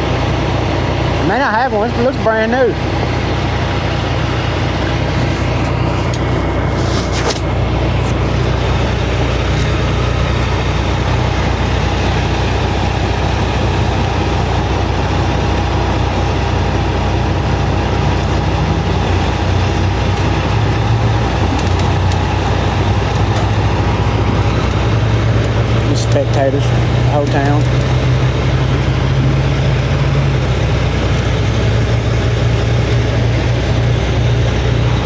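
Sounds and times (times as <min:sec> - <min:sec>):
heavy truck engine running: 0:00.0 - 0:35.0.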